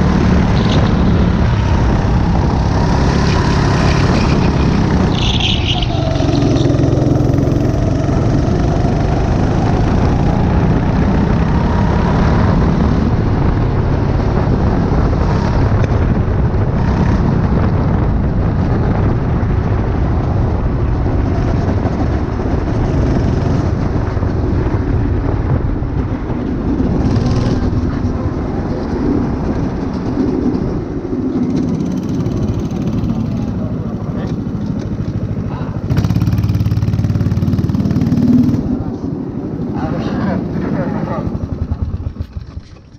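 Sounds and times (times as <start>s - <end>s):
go-kart engine running hard: 0.0s - 42.9s.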